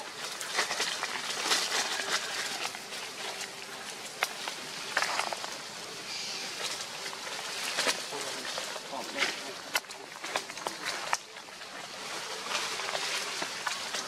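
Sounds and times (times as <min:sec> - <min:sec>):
dry leaves rustling and crackling: 0:00.0 - 0:14.0.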